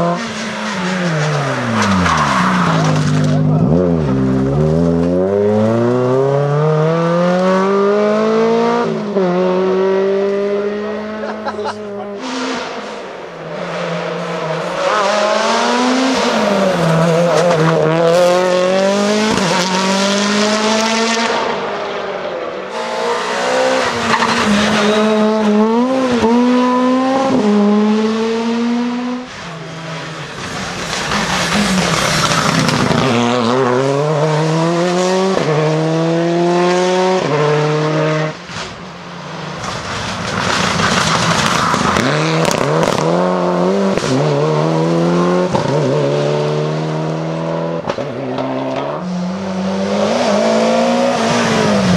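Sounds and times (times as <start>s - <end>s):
rally car engines revving: 0.0s - 51.9s
tyre noise on road: 0.0s - 51.9s.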